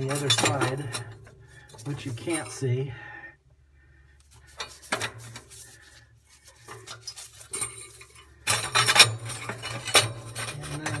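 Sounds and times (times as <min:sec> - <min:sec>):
metal tubes clinking and scraping: 0:00.0 - 0:02.7, 0:04.3 - 0:11.0.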